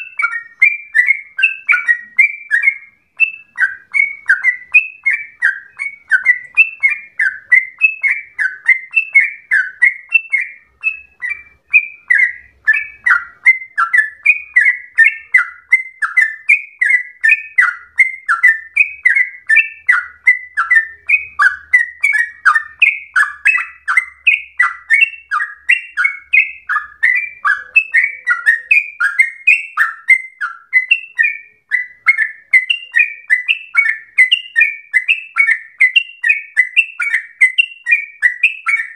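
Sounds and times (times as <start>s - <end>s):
bulbul singing bubbly whistles: 0.0s - 38.9s.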